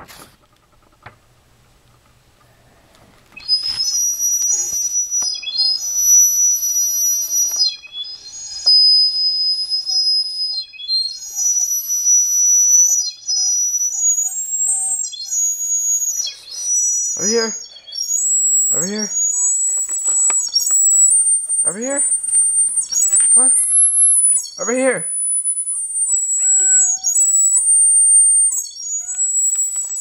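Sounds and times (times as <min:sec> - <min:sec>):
high-pitched whistle notes: 0:03.4 - 0:30.0.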